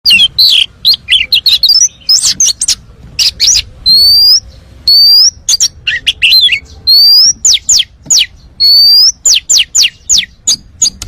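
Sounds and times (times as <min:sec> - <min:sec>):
magpie-robin singing: 0:00.1 - 0:11.0.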